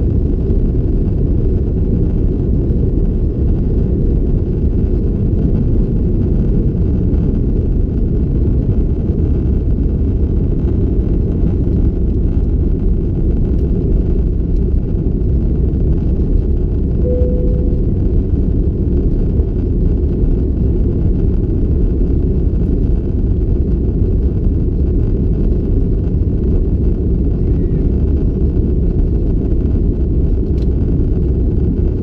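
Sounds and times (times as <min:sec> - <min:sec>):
airplane cabin roar: 0:00.0 - 0:32.0.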